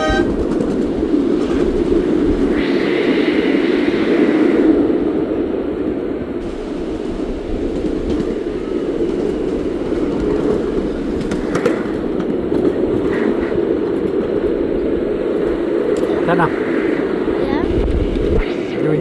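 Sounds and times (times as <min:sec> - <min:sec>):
steam train rumbling: 0:00.0 - 0:05.3, 0:06.4 - 0:18.7.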